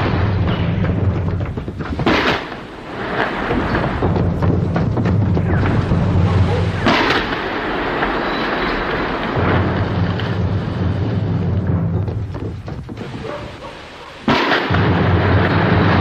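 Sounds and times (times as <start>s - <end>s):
sharp explosion blast: 0.0s - 13.6s, 14.2s - 16.0s
continuous rumbling noise: 0.0s - 16.0s.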